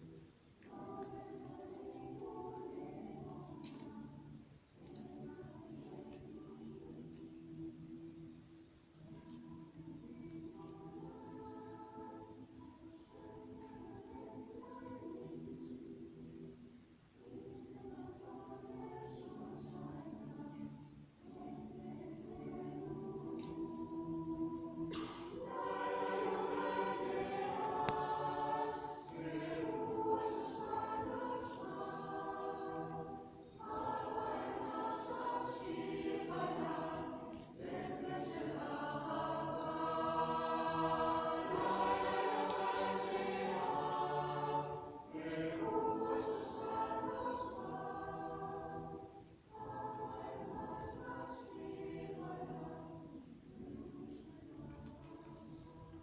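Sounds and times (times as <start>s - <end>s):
choir singing in a cave: 0.0s - 56.0s.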